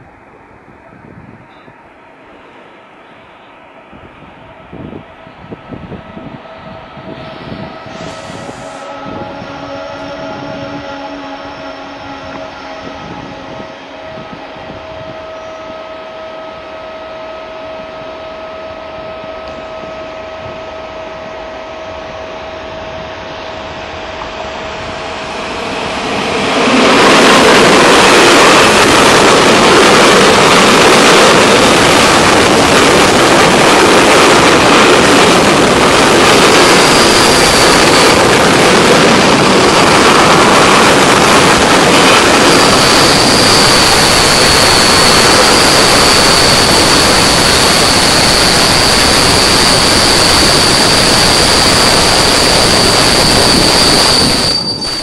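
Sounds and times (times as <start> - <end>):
freight train rumbling past: 0.0 - 55.0
train whine: 0.0 - 55.0
high steady squeal: 3.0 - 55.0.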